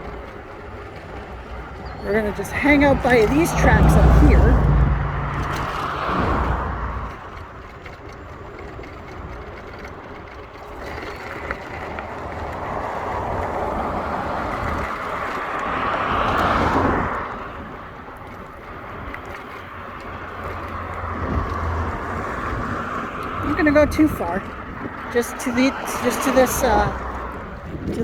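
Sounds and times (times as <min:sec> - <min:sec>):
vehicle passing by: 0:00.9 - 0:28.0.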